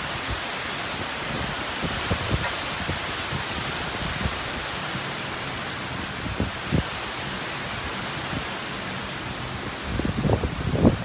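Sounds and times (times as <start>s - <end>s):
strong wind thrashing trees: 0.0s - 11.0s
wind gusts thudding on microphone: 0.0s - 11.0s.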